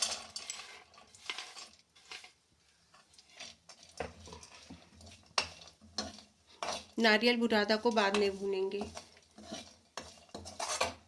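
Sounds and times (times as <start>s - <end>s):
metal utensil scraping a pan: 0.0s - 11.0s.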